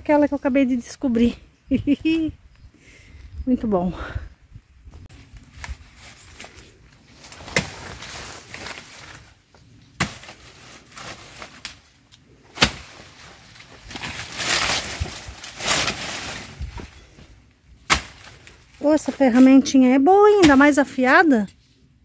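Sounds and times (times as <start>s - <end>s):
leaves and stalks rustling: 0.0s - 22.0s.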